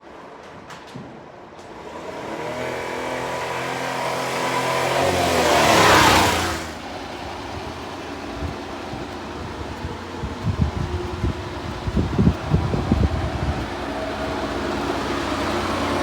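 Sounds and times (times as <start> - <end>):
motor vehicle passing: 1.7 - 16.0.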